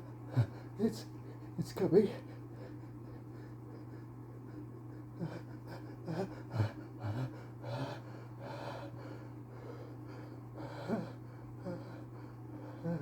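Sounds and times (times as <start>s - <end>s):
man breathing: 2.2s - 13.0s.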